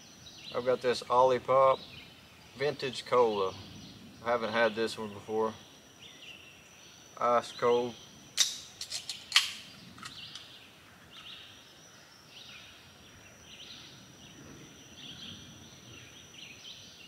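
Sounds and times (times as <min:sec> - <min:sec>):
birds chirping: 0:00.0 - 0:17.0
high insect whine: 0:00.0 - 0:17.0.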